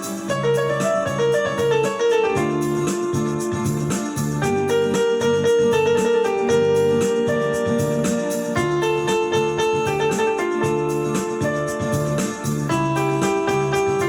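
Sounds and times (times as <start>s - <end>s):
electric piano chords: 0.0s - 14.0s
steady beat: 0.0s - 14.0s.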